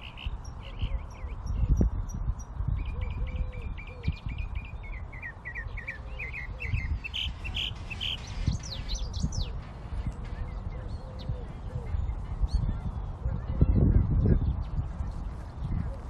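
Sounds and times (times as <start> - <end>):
songbird chirping: 0.0 - 16.0
steady low rumble: 0.0 - 16.0.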